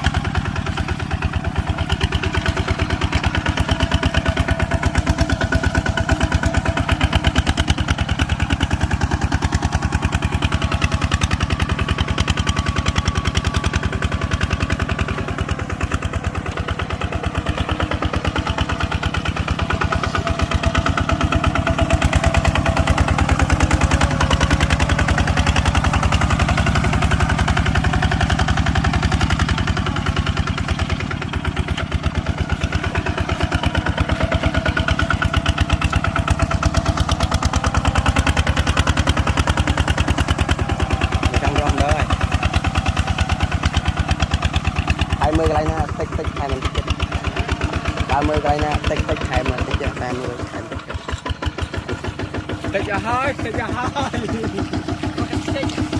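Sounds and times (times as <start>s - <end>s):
farm machine engine chugging: 0.0s - 55.9s.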